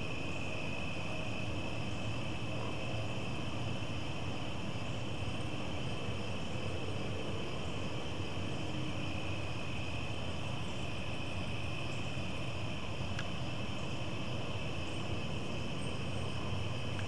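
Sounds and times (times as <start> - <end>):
crickets trilling: 0.0 - 17.0
low background hum: 0.0 - 17.0.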